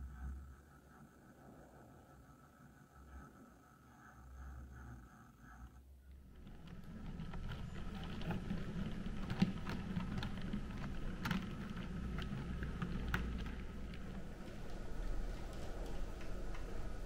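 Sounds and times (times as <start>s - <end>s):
wheels clicking on rails: 0.0s - 17.0s.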